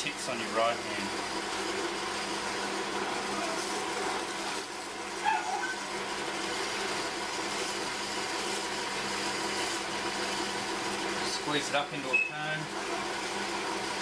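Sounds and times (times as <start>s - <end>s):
potter's wheel humming: 0.0s - 14.0s.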